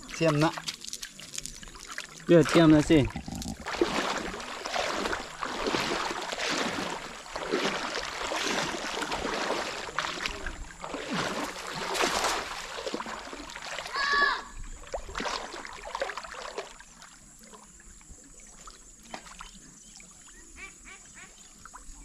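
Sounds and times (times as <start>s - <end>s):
water sloshing: 0.0s - 20.5s.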